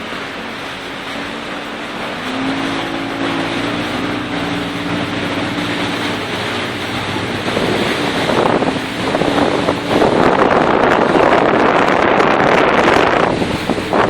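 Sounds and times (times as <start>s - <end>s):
motorboat engine running: 0.0s - 14.0s
rushing water: 0.0s - 14.0s
rushing wind: 0.0s - 14.0s.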